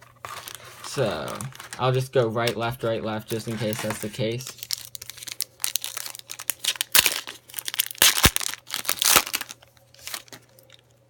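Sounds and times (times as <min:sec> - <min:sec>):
card wrapper crinkling: 0:00.0 - 0:10.9.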